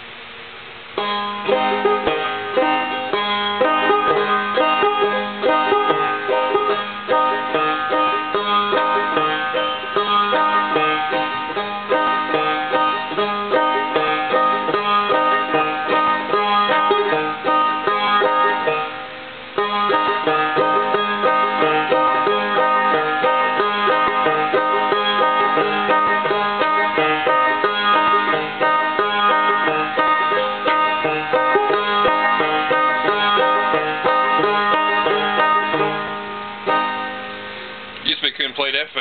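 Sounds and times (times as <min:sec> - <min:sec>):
banjo plucked notes: 0:00.8 - 0:38.2.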